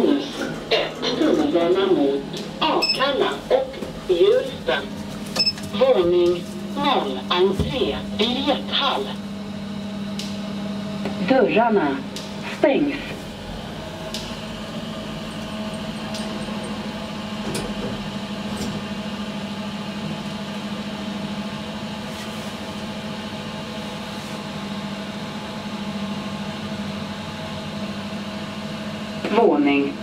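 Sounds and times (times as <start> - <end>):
elevator car hum: 0.0 - 30.0.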